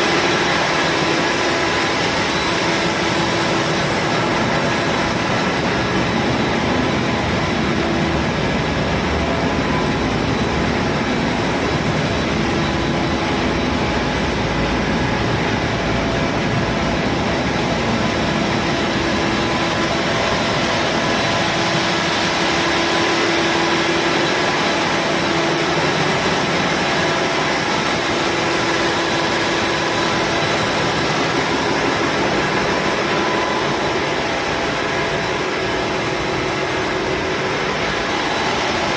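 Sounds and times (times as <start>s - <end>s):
engine room machinery din: 0.0s - 38.9s.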